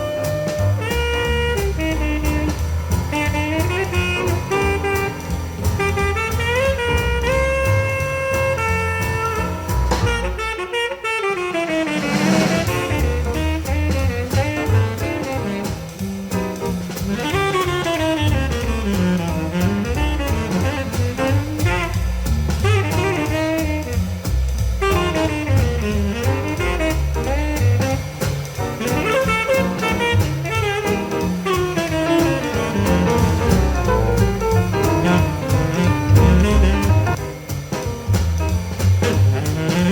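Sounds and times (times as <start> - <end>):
jazz saxophone with bass and drums: 0.0 - 39.9.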